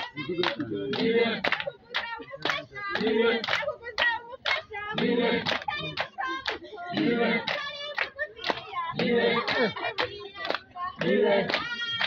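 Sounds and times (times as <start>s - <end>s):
woman singing: 0.0s - 0.8s, 1.4s - 12.0s
hand-clapping: 0.0s - 12.0s.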